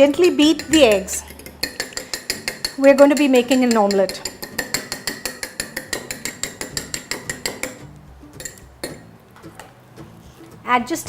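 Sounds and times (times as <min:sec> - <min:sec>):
utensil beating eggs in bowl: 0:00.0 - 0:09.0.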